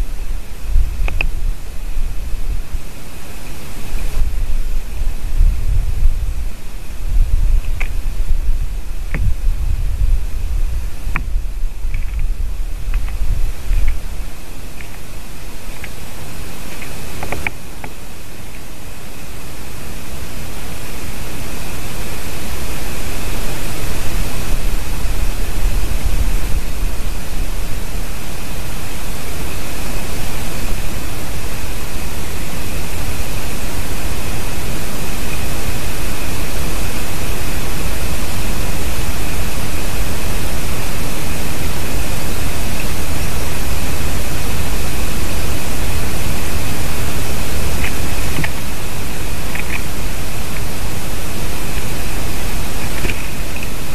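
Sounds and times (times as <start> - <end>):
microphone hiss: 0.0 - 53.9
thin high whine: 0.0 - 53.9.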